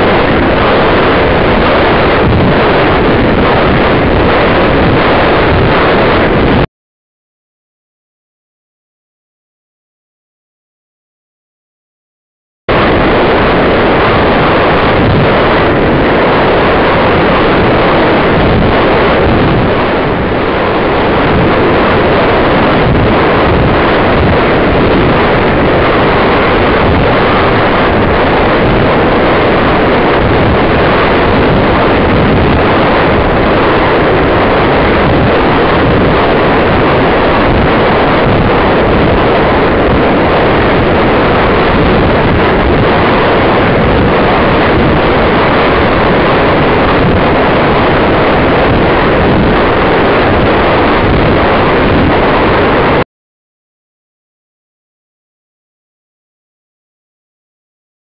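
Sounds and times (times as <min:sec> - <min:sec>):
loud wind rushing over microphone: 0:00.0 - 0:06.7, 0:12.7 - 0:53.1.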